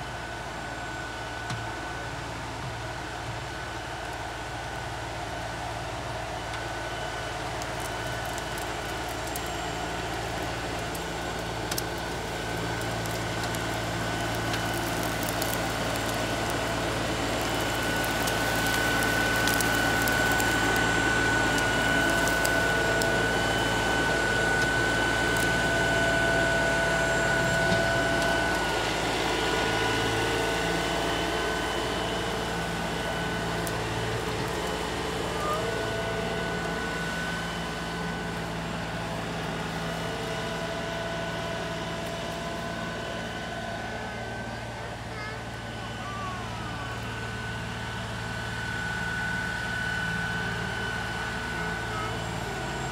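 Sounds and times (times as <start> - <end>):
steady high whine: 0.0 - 52.9
tractor diesel engine under load: 0.0 - 52.9.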